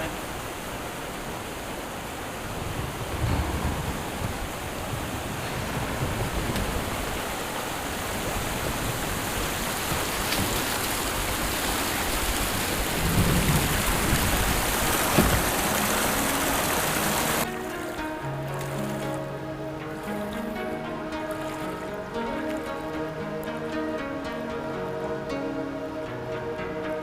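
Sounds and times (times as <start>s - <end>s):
low rumbling water surges: 0.0s - 27.0s
river water rushing: 0.0s - 27.0s.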